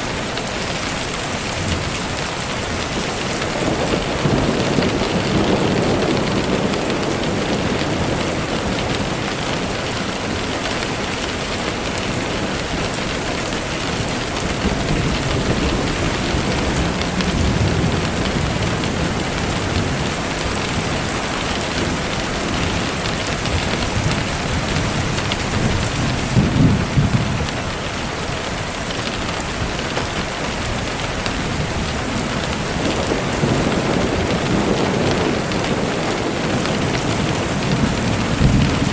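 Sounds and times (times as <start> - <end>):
steady rain falling: 0.0 - 38.9
low thunder rolls: 1.4 - 28.5, 29.5 - 38.9.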